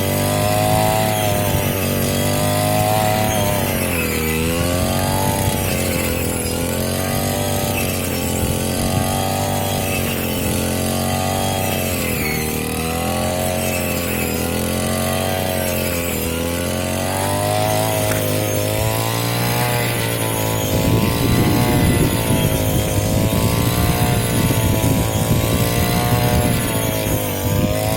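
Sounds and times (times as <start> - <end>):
small engine of grass cutter: 0.0 - 27.9.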